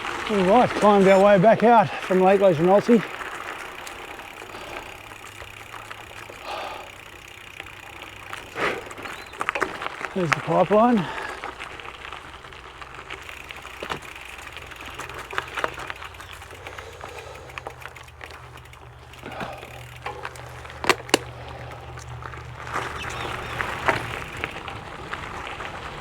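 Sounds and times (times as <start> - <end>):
bike tyres on gravel: 0.0 - 26.0
small clicks and rattles: 2.2 - 25.8.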